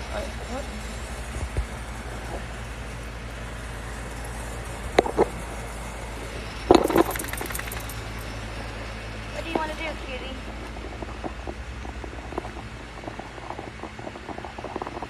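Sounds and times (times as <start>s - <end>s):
car engine idling: 0.0s - 15.0s
clatter with metallic jingle: 0.0s - 15.0s.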